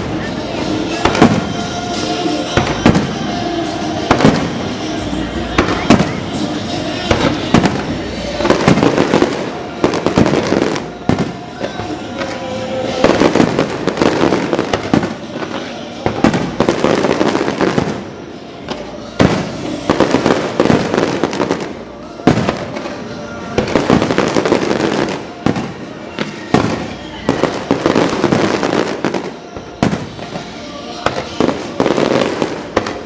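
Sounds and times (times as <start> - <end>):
fireworks bangs: 0.0 - 33.0
fireworks crackling: 0.0 - 33.0.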